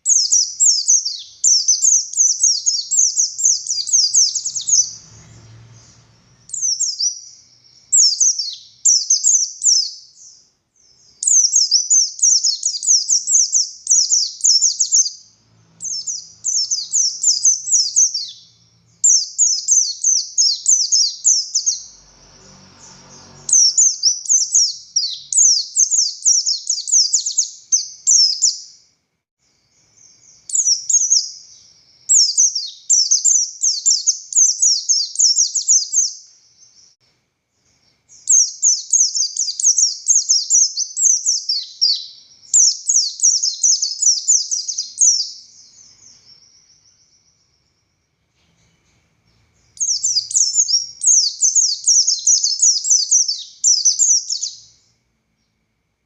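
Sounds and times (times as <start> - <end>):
bird twittering song: 0.0 - 55.6.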